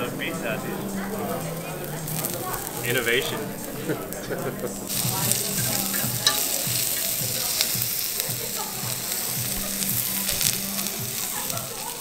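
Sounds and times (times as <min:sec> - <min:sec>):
meat sizzling on grill plate: 0:00.4 - 0:12.0.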